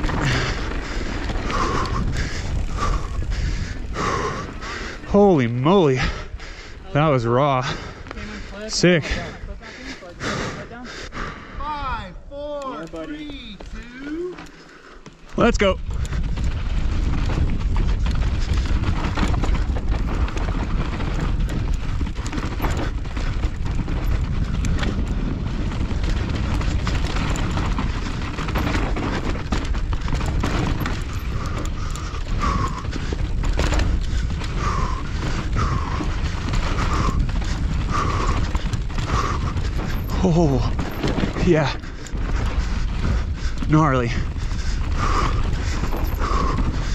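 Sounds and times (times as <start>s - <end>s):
wind rush on microphone: 0.0s - 9.6s, 15.5s - 46.9s
bike frame rattling: 0.0s - 10.6s, 12.3s - 46.9s
tyres skidding on dirt: 0.0s - 10.7s, 15.4s - 46.9s.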